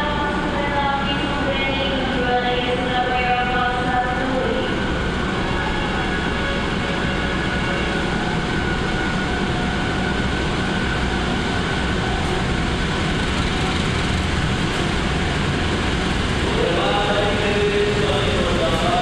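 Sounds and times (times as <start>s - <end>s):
diesel locomotive running: 0.0s - 19.0s.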